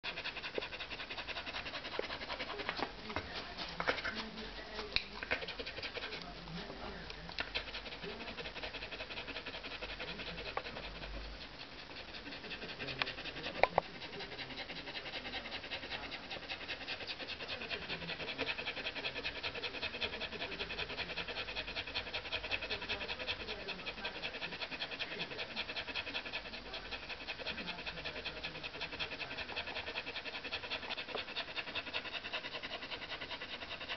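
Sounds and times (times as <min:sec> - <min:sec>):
dog panting: 0:00.0 - 0:33.9.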